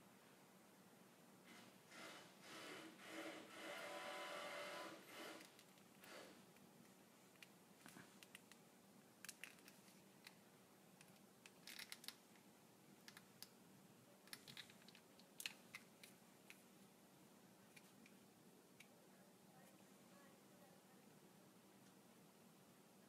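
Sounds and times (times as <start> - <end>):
low steady hum: 3.2 - 23.0.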